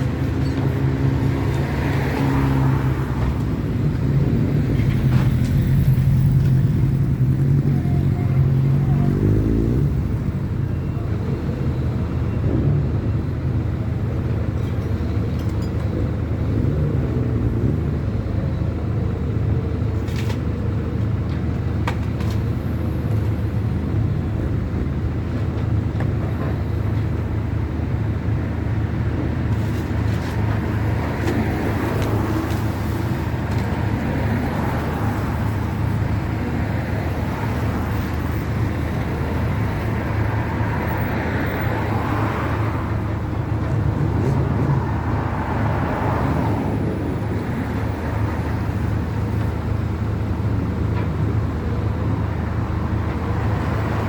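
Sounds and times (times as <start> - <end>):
large engine running: 0.0 - 54.0.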